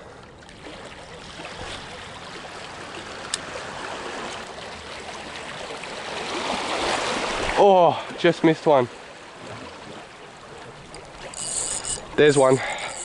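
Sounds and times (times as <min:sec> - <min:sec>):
waves lapping against rocks: 0:00.0 - 0:13.0.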